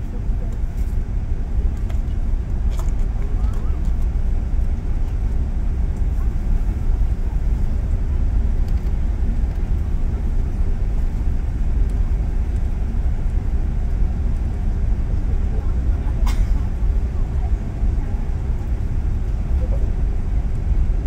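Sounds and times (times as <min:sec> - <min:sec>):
low rumble inside aircraft cabin: 0:00.0 - 0:21.0.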